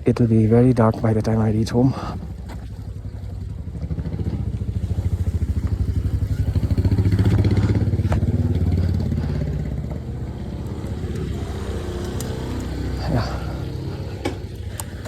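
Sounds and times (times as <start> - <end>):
motorcycle engine thumping: 2.0 - 15.0.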